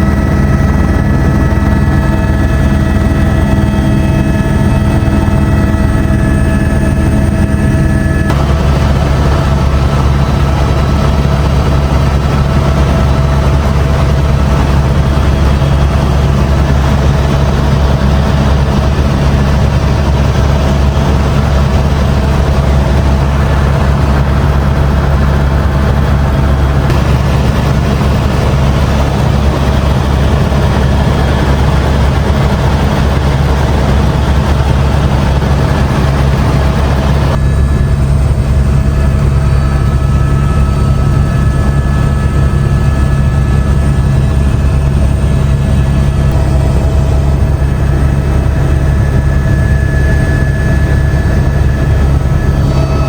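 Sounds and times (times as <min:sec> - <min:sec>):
helicopter engine and rotor: 0:00.0 - 0:53.0.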